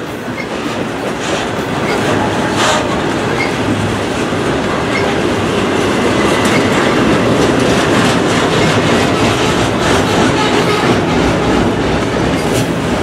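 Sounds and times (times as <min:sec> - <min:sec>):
wheels clicking over rail joints: 0:00.0 - 0:11.2
train rumbling past: 0:00.0 - 0:13.0.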